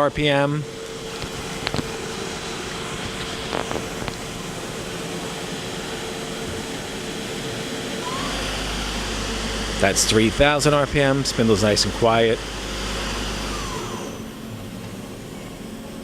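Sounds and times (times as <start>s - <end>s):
lathe spindle whining: 0.0s - 16.0s
deep hum: 0.9s - 16.0s.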